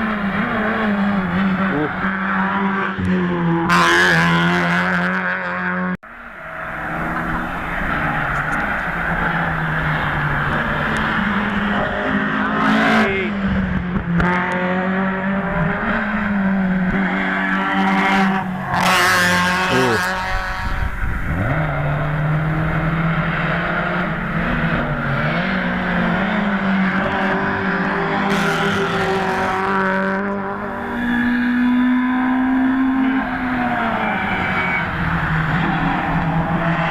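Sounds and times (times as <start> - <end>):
racing car engine revving: 0.0 - 36.9.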